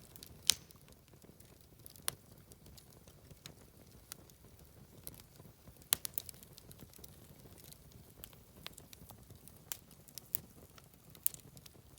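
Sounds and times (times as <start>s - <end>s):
soft fire rumble: 0.0s - 11.9s
wood fire crackling and popping: 0.0s - 11.9s.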